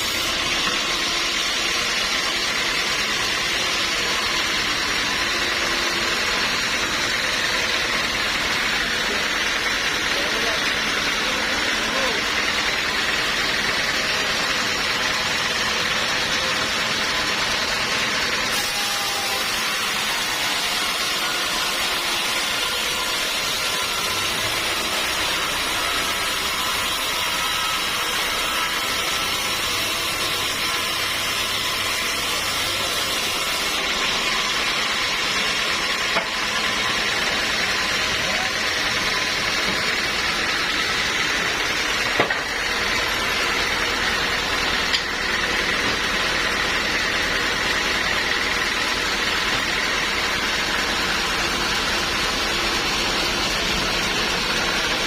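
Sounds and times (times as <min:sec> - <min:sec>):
sawmill machinery whirring: 0:00.0 - 0:55.0.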